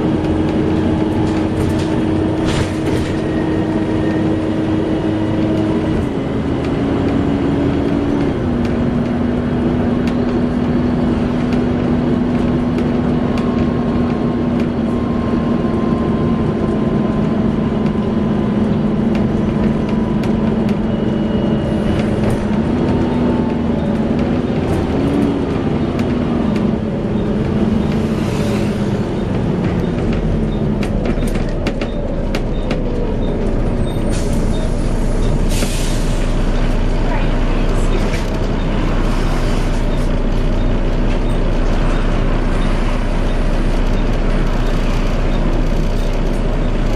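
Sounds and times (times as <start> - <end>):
mechanical din of bus engine: 0.0 - 46.9.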